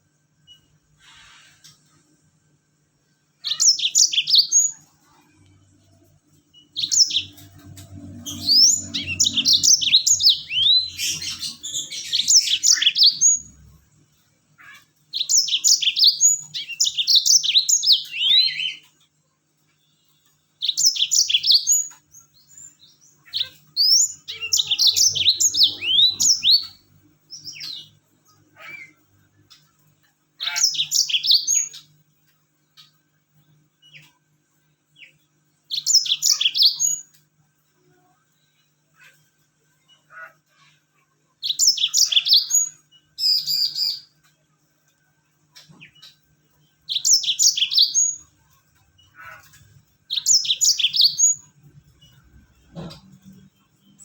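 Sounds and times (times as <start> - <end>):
canary chirps and trills: 0.1 - 54.0.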